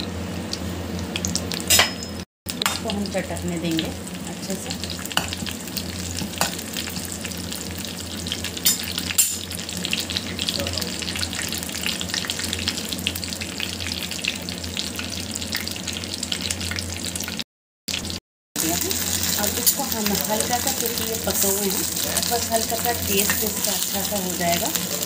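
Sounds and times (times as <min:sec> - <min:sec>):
seeds sizzling and crackling in oil: 0:00.0 - 0:25.0.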